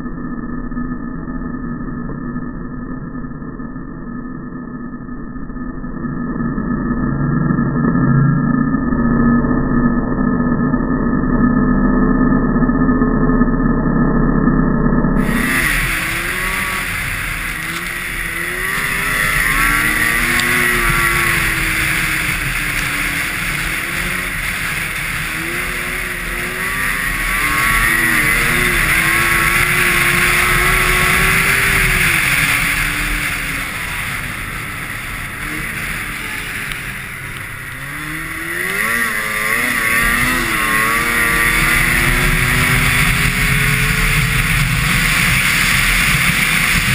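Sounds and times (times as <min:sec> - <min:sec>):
snowmobile engine running at speed: 0:00.0 - 0:46.9
track and wind noise: 0:00.0 - 0:46.9.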